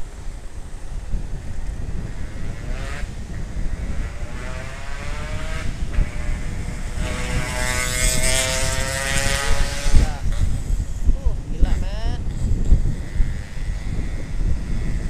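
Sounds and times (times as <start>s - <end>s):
motorcycle engine: 0.0s - 15.0s
road rumble: 0.0s - 15.0s
wind buffeting microphone: 0.0s - 15.0s.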